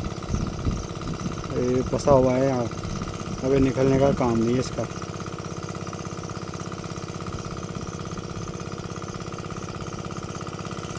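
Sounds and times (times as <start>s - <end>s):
engine idling: 0.0s - 10.9s.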